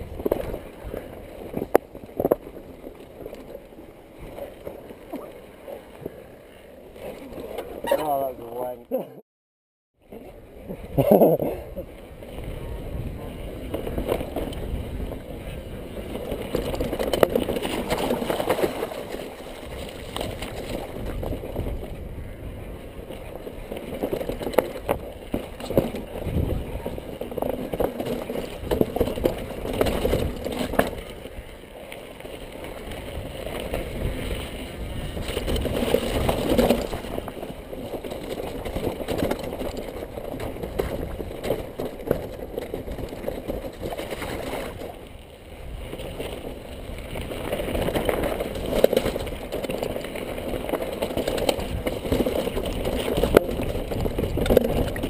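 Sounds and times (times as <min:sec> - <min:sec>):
bike knocking and rattling: 0:00.0 - 0:08.6, 0:10.9 - 0:55.0
bike tyres on stone and gravel: 0:00.0 - 0:08.8, 0:10.2 - 0:55.0.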